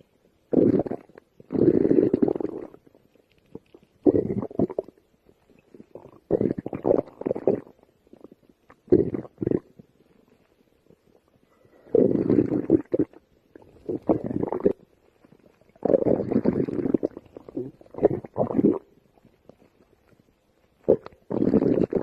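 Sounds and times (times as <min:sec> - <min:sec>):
stomach growling: 0:00.5 - 0:22.0.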